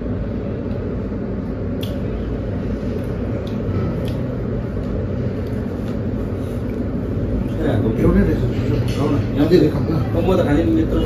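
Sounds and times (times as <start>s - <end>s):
low background rumble: 0.0s - 11.0s
people eating by hand: 0.6s - 11.0s.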